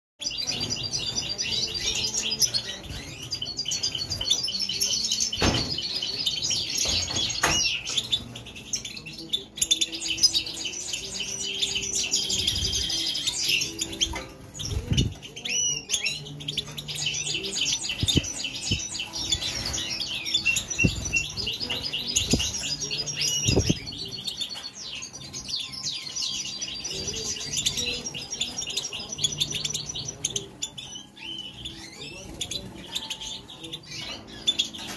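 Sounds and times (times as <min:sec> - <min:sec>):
goldfinches twittering and singing: 0:00.2 - 0:34.9.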